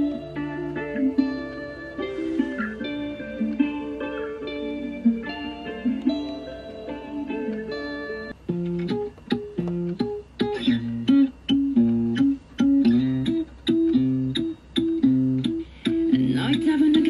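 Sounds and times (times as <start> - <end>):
plucked guitar riff: 0.0 - 17.0
ticking beat: 0.0 - 17.0.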